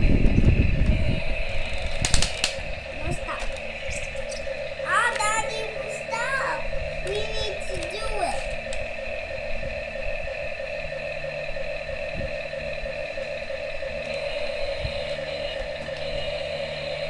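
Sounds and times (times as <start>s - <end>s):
toy electric motor whirring: 0.0s - 17.0s.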